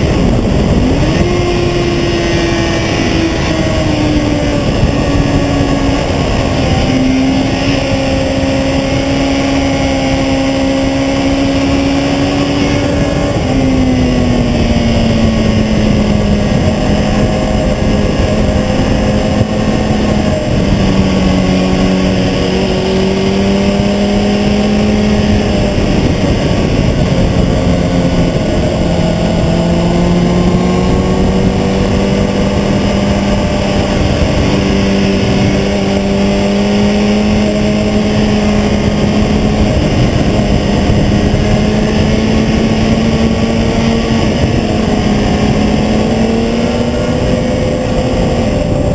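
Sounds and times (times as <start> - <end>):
motorcycle engine running hard: 0.0 - 48.9
road noise: 0.0 - 48.9
wind noise: 0.0 - 48.9.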